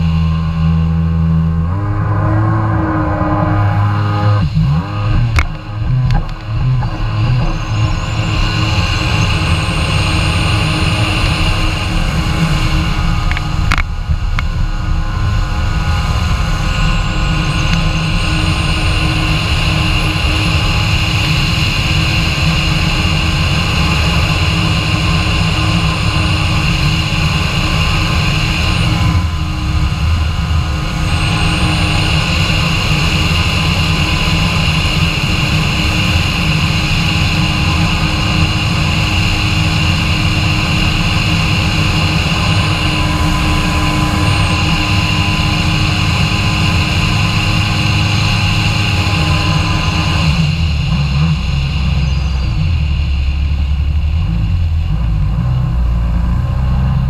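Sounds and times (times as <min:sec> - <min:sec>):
jet ski engine running: 0:00.0 - 0:57.0.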